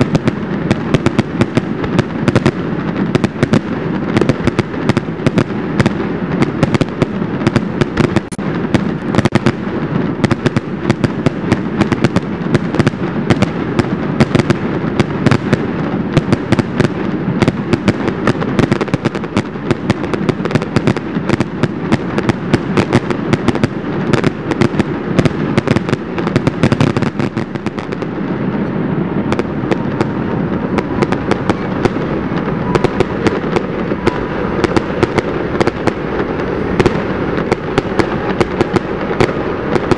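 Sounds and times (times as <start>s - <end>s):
continuous rumble: 0.0s - 39.9s
fireworks bursting and crackling: 0.0s - 39.9s.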